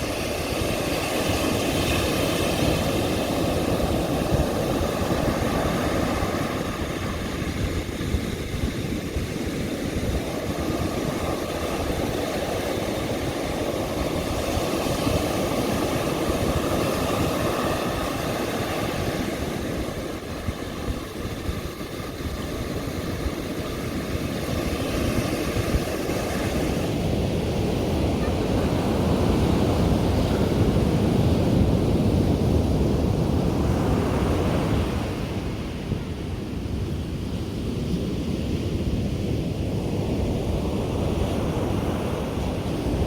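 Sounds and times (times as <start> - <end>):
ocean surf washing onto beach: 0.0 - 43.0.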